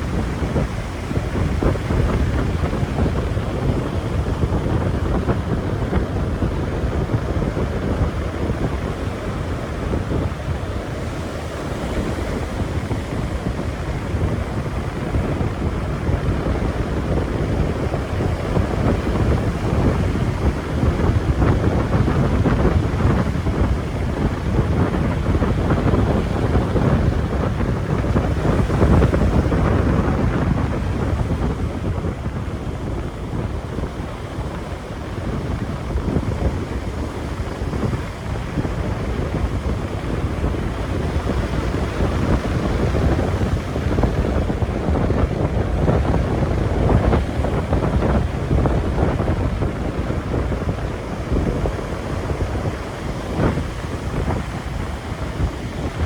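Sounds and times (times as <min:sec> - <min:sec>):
ocean surf rushing: 0:00.0 - 0:56.0
wind buffeting microphone: 0:00.0 - 0:56.0.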